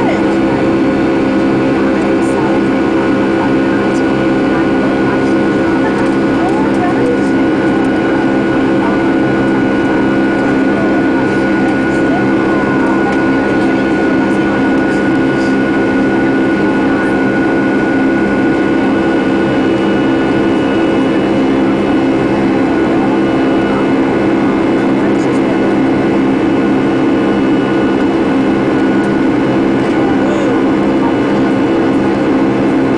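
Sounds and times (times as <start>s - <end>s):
jet engines droning in cabin: 0.0s - 32.9s.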